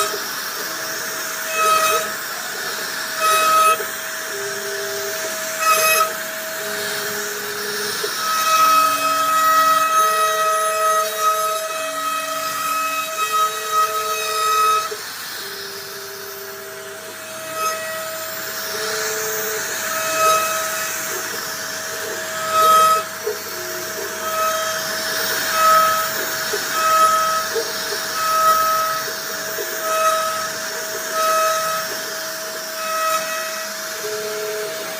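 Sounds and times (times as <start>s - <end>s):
router spindle whine: 0.0s - 34.9s.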